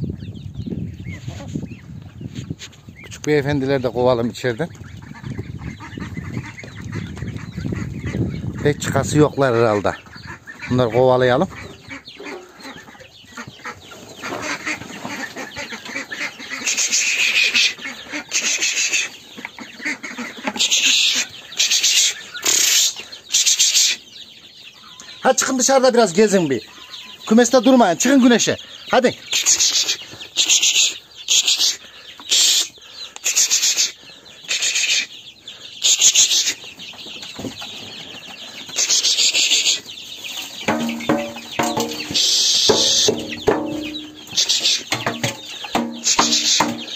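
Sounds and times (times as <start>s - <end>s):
young chickens peeping: 0.0s - 46.9s
chicken clucking: 1.0s - 46.9s
ducks quacking: 3.7s - 36.8s, 38.4s - 46.9s.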